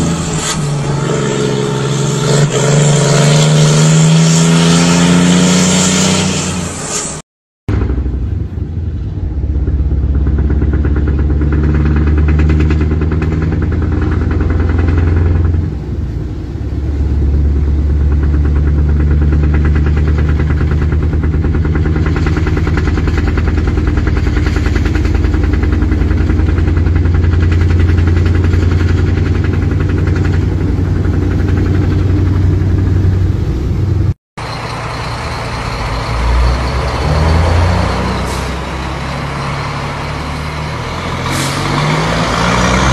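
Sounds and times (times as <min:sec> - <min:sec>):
quieter truck running: 0:00.0 - 0:42.9
truck engine droning: 0:00.0 - 0:42.9.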